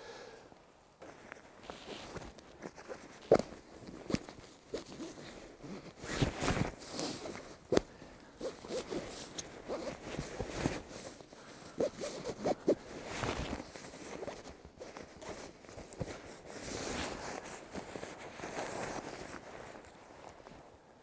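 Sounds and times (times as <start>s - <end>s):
sleeping bag rustling: 1.0s - 20.8s.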